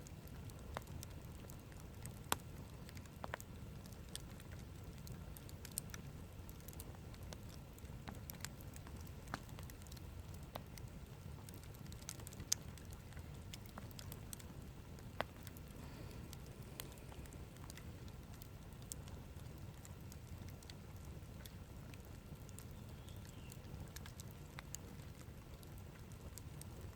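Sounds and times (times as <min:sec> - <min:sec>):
campfire crackling: 0:00.0 - 0:26.9
low steady rumble: 0:00.0 - 0:26.9.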